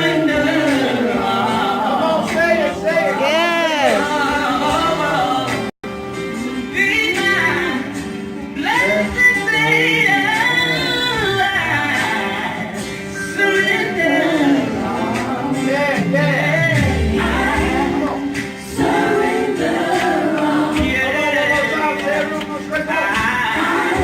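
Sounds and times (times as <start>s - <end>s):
backing music: 0.0s - 24.0s
people singing gospel: 0.0s - 24.0s.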